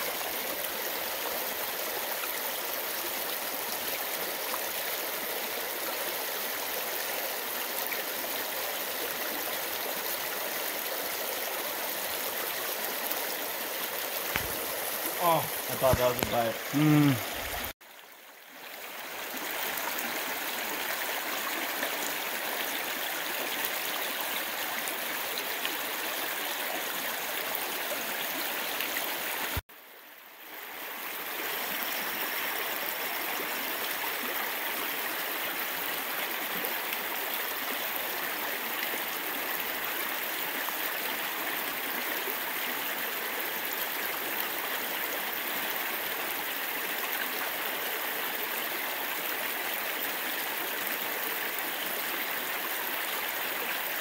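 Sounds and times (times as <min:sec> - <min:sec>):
creek water rushing over rocks: 0:00.0 - 0:54.0.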